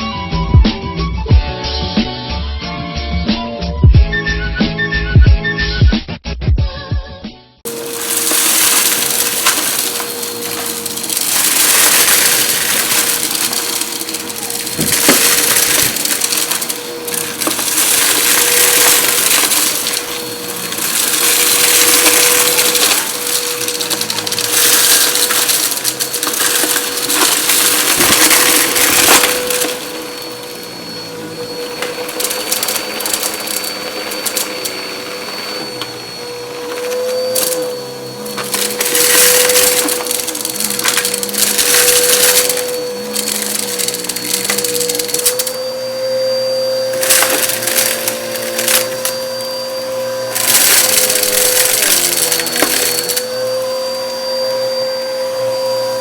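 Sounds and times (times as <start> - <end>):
debris crunching being sucked up: 7.7 - 56.0
vacuum motor whine: 7.7 - 56.0.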